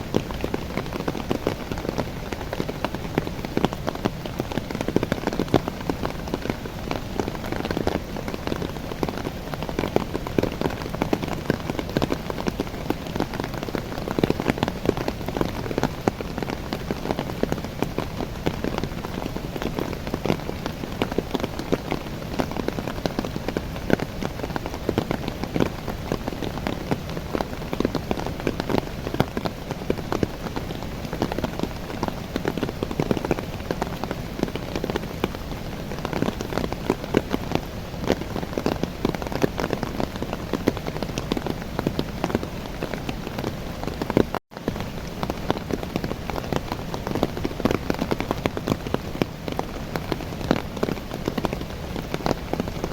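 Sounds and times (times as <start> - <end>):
heavy rain pattering on leaves: 0.0 - 52.9.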